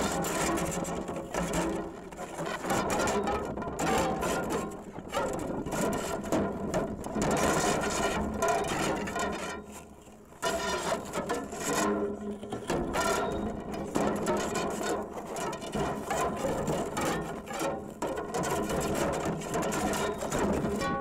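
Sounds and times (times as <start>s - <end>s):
rods scraping over rocks: 0.0s - 21.0s.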